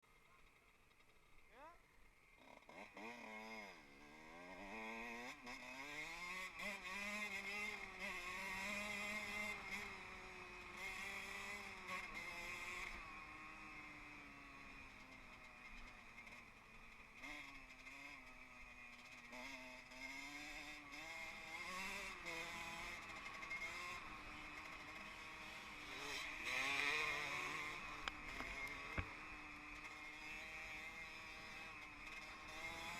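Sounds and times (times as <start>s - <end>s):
motocross bike engine revving: 0.1s - 32.9s.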